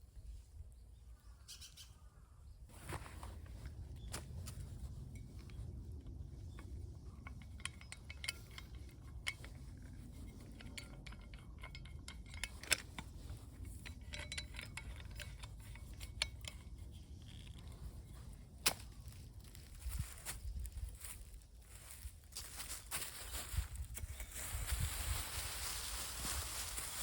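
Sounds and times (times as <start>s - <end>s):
low steady rumble: 2.7s - 27.0s
light clicks and clinks: 3.0s - 27.0s.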